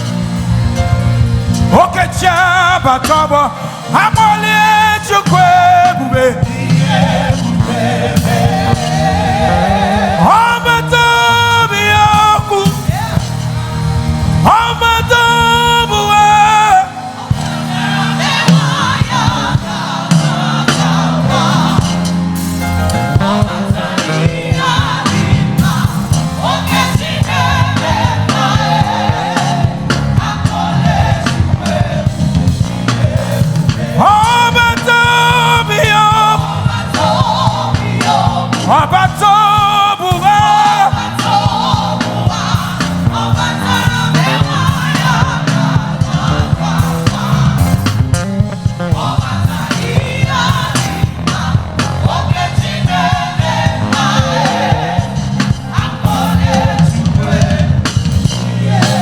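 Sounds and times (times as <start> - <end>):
band with beat and bass: 0.0 - 59.0
gospel choir singing: 0.0 - 59.0.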